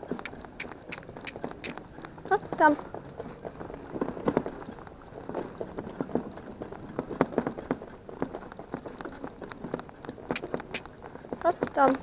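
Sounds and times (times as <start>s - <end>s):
pony hoofbeats trotting: 0.0s - 12.0s.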